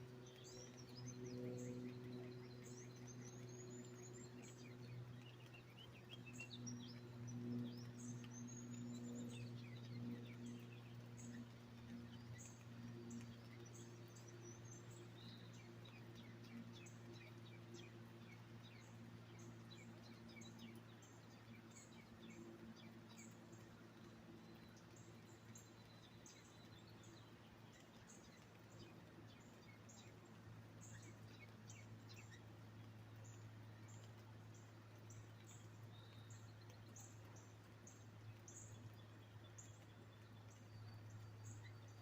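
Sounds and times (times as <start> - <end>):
small birds chirping: 0.0 - 42.0
steady low hum: 0.0 - 42.0.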